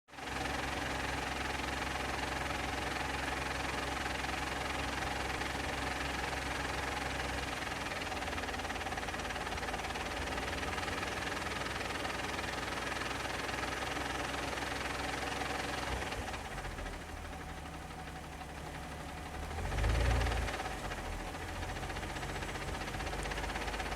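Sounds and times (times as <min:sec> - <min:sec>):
car engine idling: 0:00.2 - 0:23.9.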